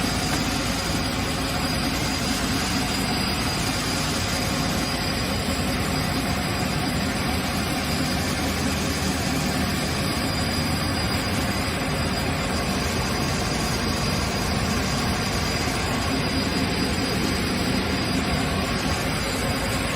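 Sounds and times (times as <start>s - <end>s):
high steady whine: 0.0s - 19.9s.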